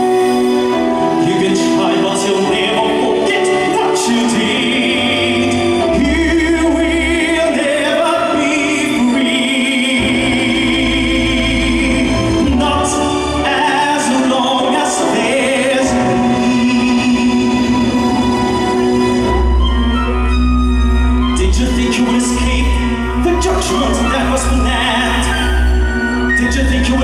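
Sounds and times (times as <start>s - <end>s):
recorded backing music: 0.0s - 27.0s
man singing into a microphone: 1.1s - 18.5s, 21.3s - 27.0s.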